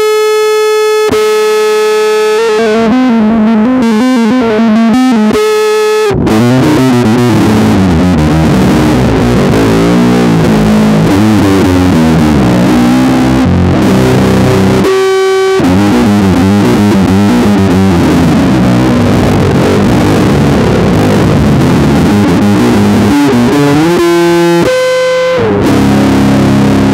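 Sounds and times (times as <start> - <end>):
electric bass guitar fingerstyle: 0.0 - 26.9
distorted metal music: 0.9 - 26.9.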